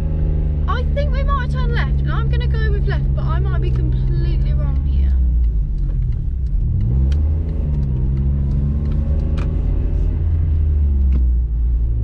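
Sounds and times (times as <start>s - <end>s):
car engine inside cabin: 0.0s - 12.0s.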